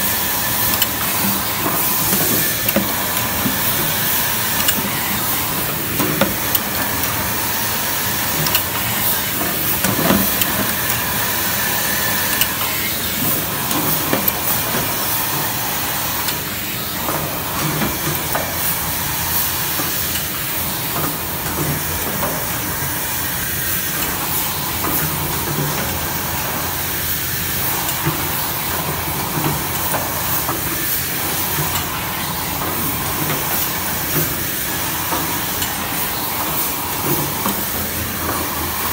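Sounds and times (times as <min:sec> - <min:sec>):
machine clicks and clacks: 0:00.0 - 0:38.9
printing machine hiss and whir: 0:00.0 - 0:38.9.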